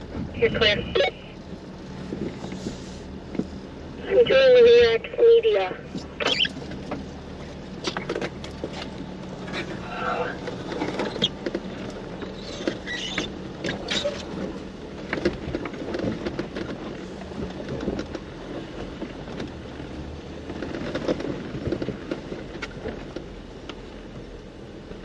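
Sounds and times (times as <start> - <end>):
off-road vehicle engine running: 0.0 - 25.0.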